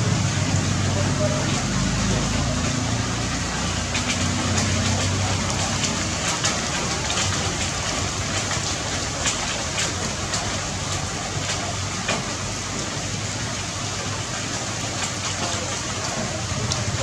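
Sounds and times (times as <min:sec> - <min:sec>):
low engine-like hum: 0:00.0 - 0:17.0
rain falling: 0:00.0 - 0:17.0.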